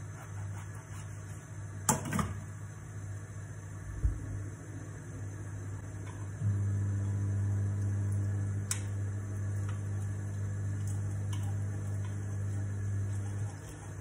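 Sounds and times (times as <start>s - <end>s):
appliance motor hum: 0.0s - 14.0s.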